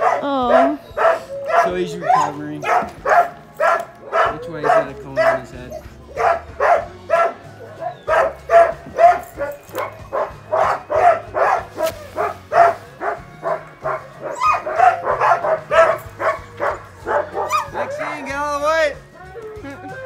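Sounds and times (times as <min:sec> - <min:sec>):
sled dogs barking: 0:00.0 - 0:20.0.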